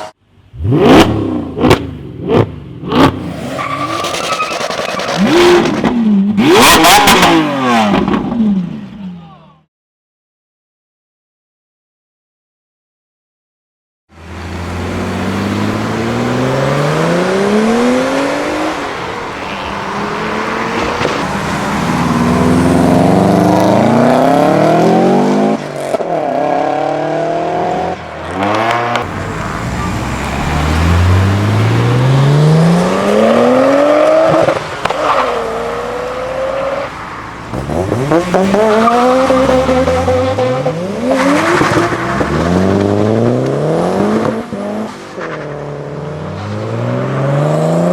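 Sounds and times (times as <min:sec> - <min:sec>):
cars accelerating with engines revving: 0:00.0 - 0:09.0, 0:14.2 - 0:47.9.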